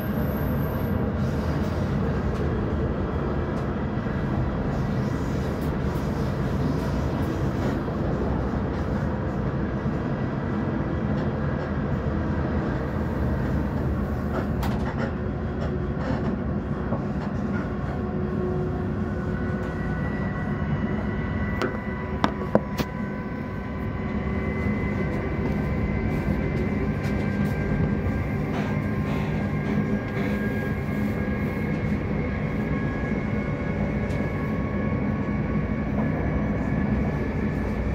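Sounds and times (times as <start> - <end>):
faint train whine: 0.0 - 37.9
train wheels rumbling on rails: 0.0 - 37.9.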